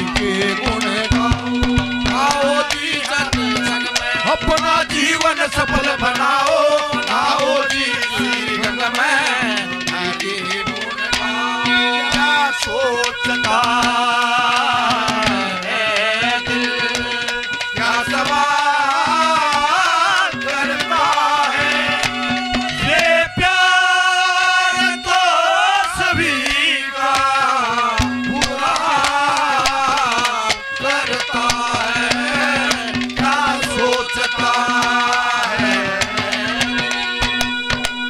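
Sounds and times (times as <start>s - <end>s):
hand drum strokes: 0.0s - 23.9s, 24.7s - 38.0s
wavering folk melody: 0.0s - 38.0s.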